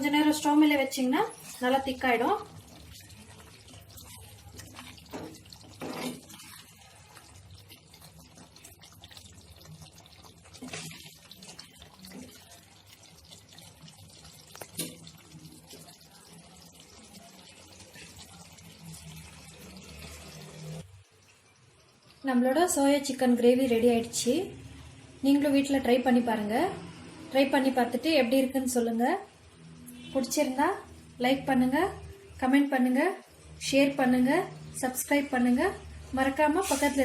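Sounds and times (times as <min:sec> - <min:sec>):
gravy bubbling in a pan: 0:00.0 - 0:37.0.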